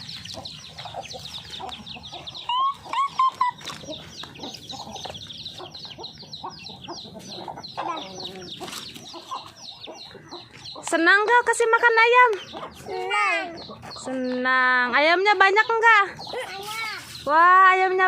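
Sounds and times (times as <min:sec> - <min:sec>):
chicks peeping: 0:00.0 - 0:18.0
hens clucking: 0:00.0 - 0:18.0.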